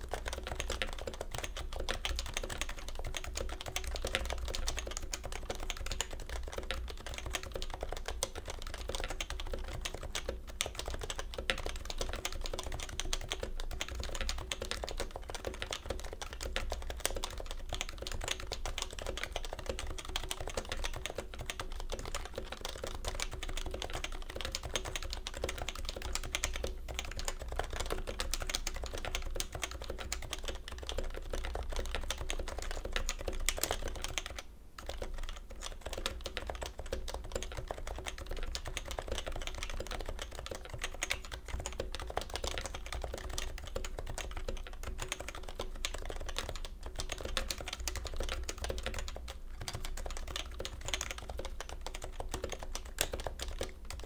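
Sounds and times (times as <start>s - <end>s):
fast keyboard typing: 0.0s - 54.0s.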